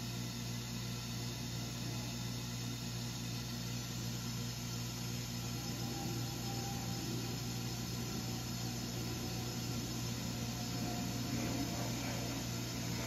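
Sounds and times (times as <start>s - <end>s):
water pump hiss and hum: 0.0s - 13.0s.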